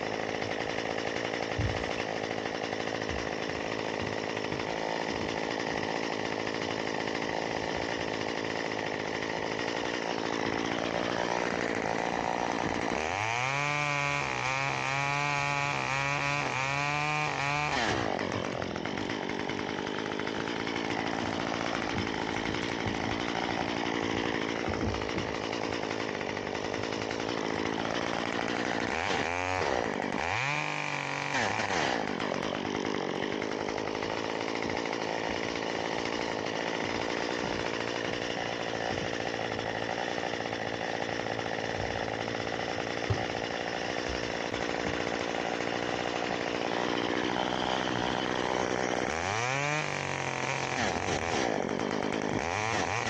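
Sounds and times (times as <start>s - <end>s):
chainsaw running and revving: 0.0s - 53.0s.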